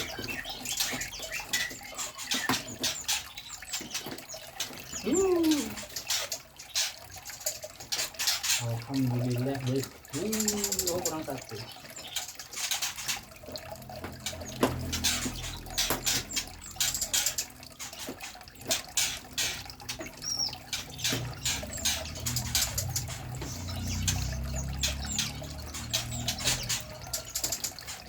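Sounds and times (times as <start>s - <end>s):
small birds chip calls: 0.0s - 28.0s.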